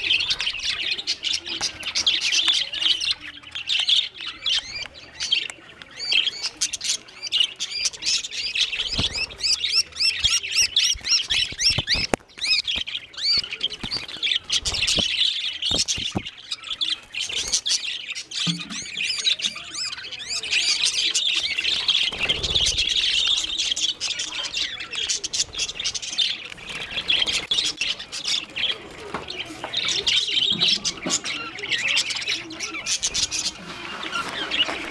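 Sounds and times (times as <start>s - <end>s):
budgerigars chattering and squawking: 0.0s - 34.9s.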